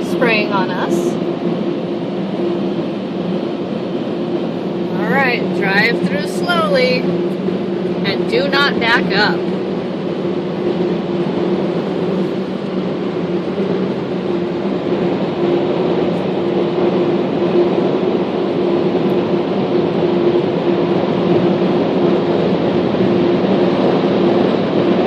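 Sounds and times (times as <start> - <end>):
car wash dryer blowers: 0.0 - 25.0.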